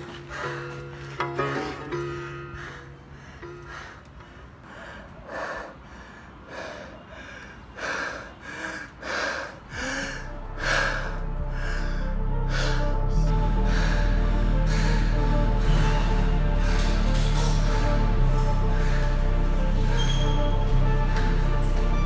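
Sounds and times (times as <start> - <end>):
film music: 0.0 - 5.2, 8.3 - 22.0.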